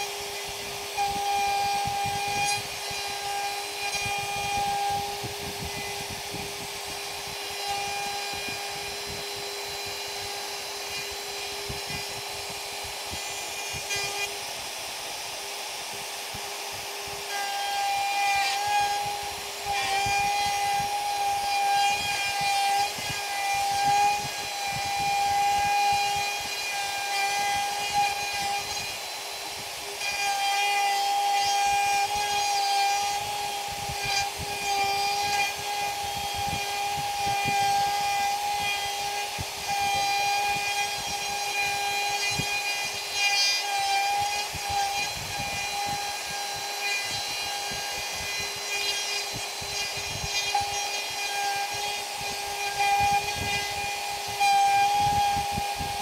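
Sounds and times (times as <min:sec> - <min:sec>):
electric router whining: 0:00.0 - 0:56.0.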